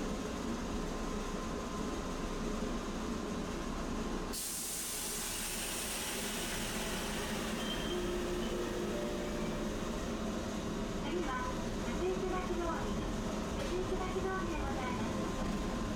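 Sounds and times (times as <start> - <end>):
streetcar rail and motor noise: 0.0 - 15.9.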